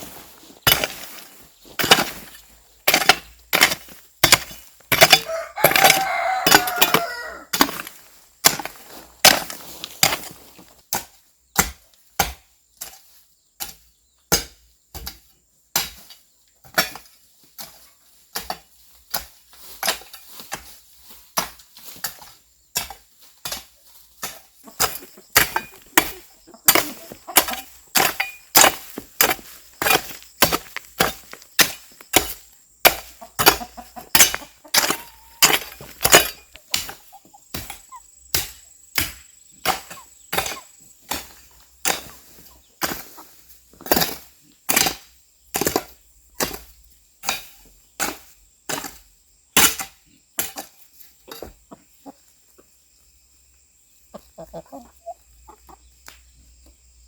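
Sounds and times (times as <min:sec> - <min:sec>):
hand tool chopping: 0:00.6 - 0:20.7, 0:21.3 - 0:43.2, 0:43.8 - 0:51.6.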